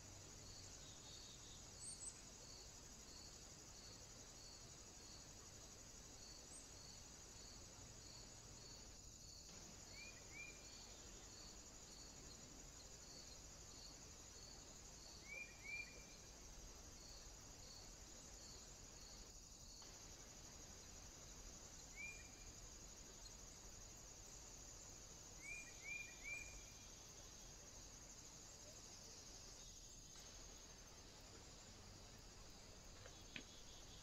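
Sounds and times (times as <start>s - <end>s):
high insect buzz: 0.0s - 34.0s.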